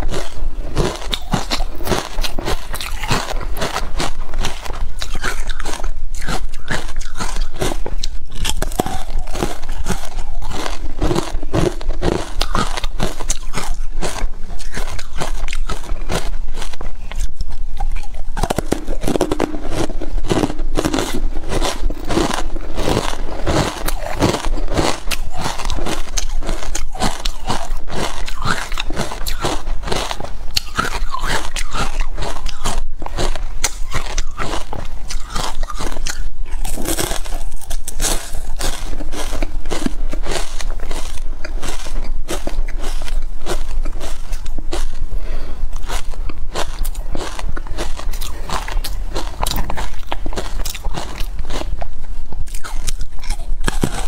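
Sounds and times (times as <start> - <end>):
ice crunching being chewed: 0.0 - 54.0.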